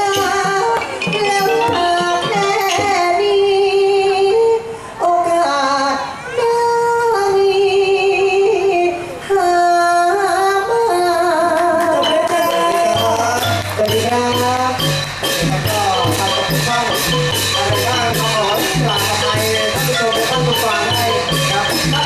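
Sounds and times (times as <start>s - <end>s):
person singing long held notes: 0.0s - 22.0s.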